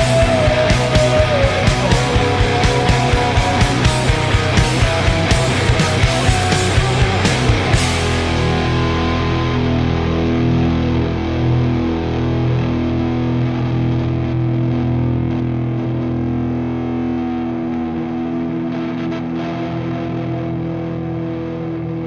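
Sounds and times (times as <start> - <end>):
distorted electric guitars: 0.0 - 22.0.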